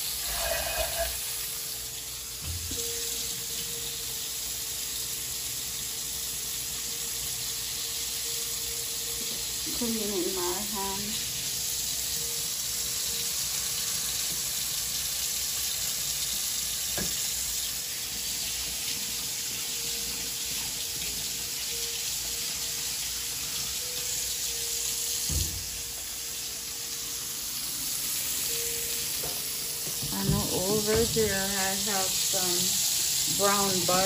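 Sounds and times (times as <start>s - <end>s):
fish frying in oil: 0.0s - 34.0s.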